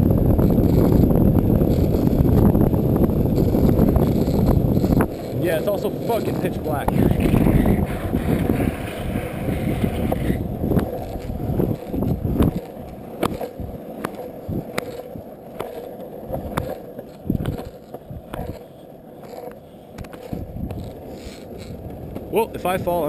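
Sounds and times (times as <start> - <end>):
longboard wheels rolling on asphalt: 0.0 - 23.0.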